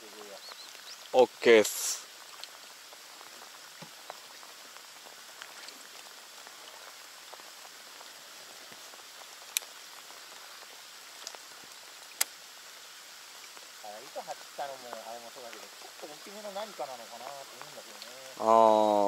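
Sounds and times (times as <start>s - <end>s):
rain falling on water: 0.0s - 19.0s.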